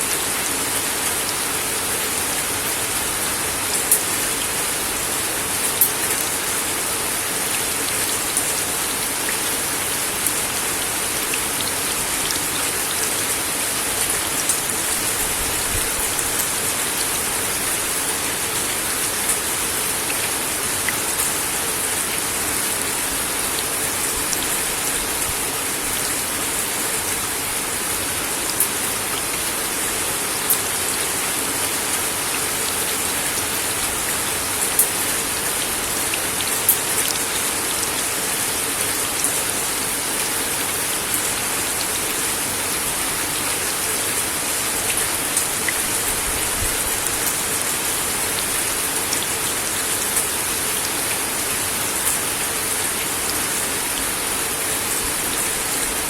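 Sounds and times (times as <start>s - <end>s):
rain on a wooden deck: 0.0s - 56.0s.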